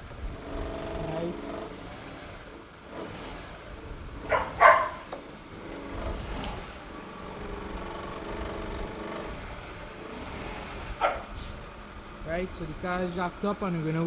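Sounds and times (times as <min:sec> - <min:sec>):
car engine running slowly: 0:00.0 - 0:14.0.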